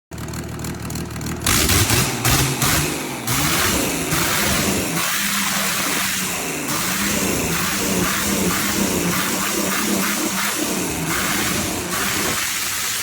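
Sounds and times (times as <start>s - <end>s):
engine revving: 1.4s - 13.0s.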